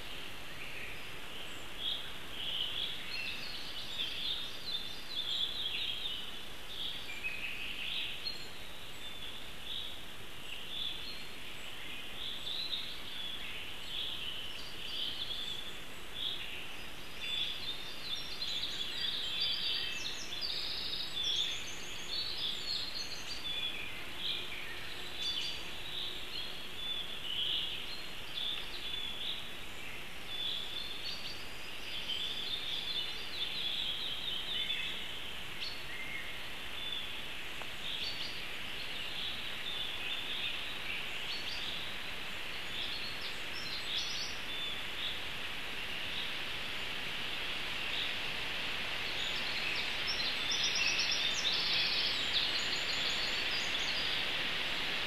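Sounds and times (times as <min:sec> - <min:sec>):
songbirds chirping: 0:00.0 - 0:55.0
steady background hiss: 0:00.0 - 0:55.0.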